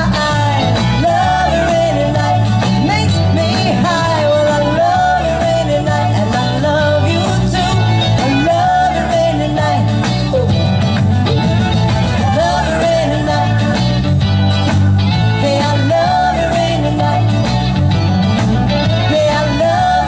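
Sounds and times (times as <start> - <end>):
bass and drums: 0.0 - 20.0
lead electric guitar bending: 0.0 - 20.0.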